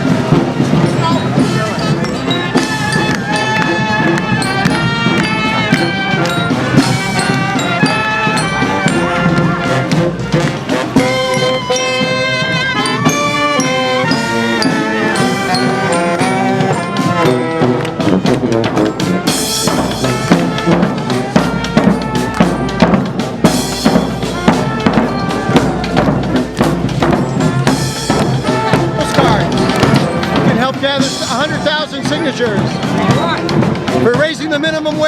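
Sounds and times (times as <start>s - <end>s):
brass horns melody: 0.0s - 35.0s
drums and percussion beat: 0.0s - 35.0s.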